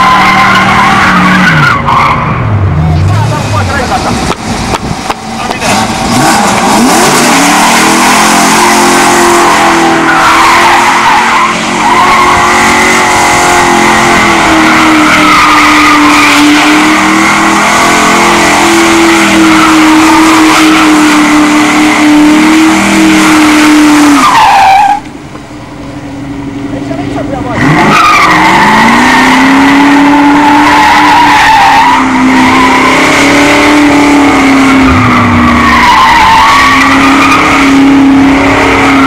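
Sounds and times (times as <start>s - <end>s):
car engine revving high: 0.0s - 25.2s, 26.2s - 39.0s
tyres squealing on asphalt: 0.0s - 39.0s.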